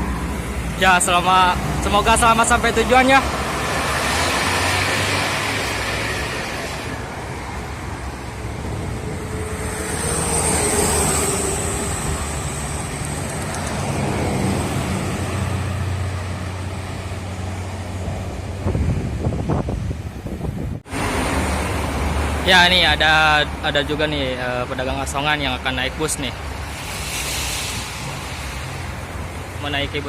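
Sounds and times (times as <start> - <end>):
highway traffic passing: 0.0 - 30.0.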